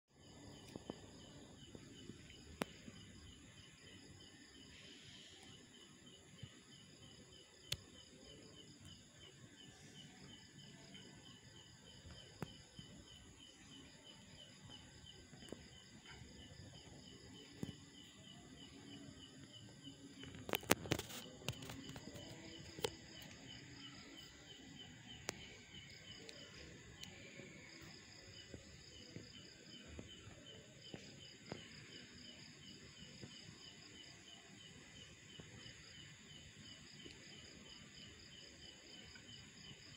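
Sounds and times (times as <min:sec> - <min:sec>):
crickets chirping: 0:00.2 - 0:39.9.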